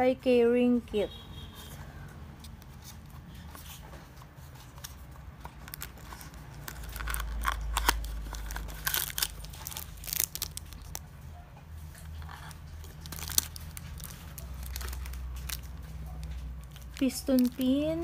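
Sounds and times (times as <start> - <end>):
cardboard and plastic wrapper crinkling: 2.6 - 11.2, 11.9 - 18.0.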